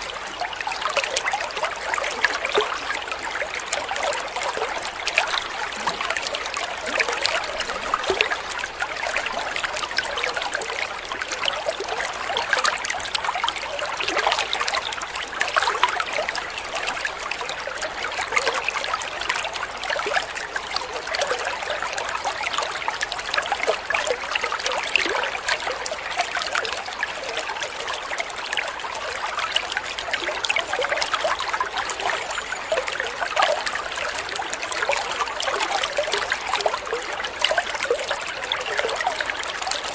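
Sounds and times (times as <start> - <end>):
water babbling over stones: 0.0 - 39.9.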